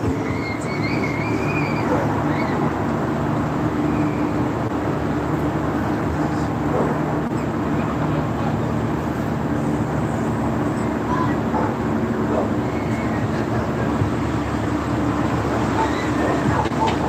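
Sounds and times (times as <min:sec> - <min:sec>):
low rumbling noise: 0:00.0 - 0:17.0
mechanical hum: 0:00.0 - 0:17.0.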